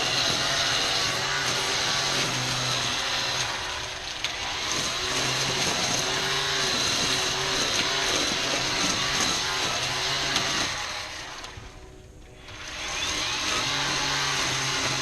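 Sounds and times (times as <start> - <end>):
string trimmer cutting weeds: 0.0 - 11.8, 12.4 - 15.0.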